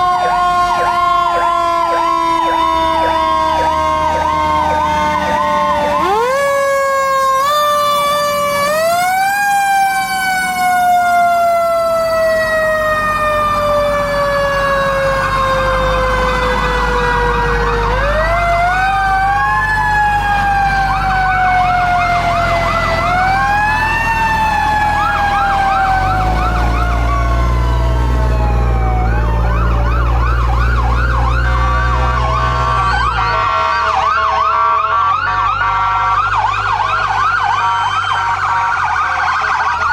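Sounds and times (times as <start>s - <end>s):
electronic sirens wailing: 0.0s - 39.9s.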